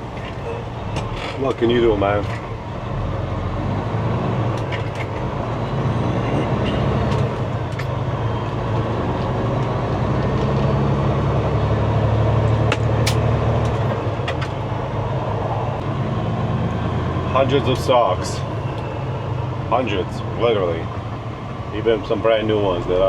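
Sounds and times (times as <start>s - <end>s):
road noise: 0.0s - 23.0s
truck diesel engine droning: 0.0s - 23.0s.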